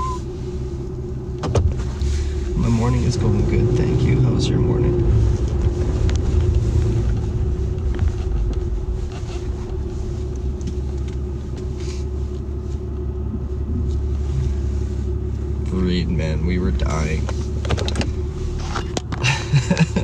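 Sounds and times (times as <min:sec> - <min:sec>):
constant hum: 0:00.0 - 0:20.0
truck rumble from inside cab: 0:00.0 - 0:20.0.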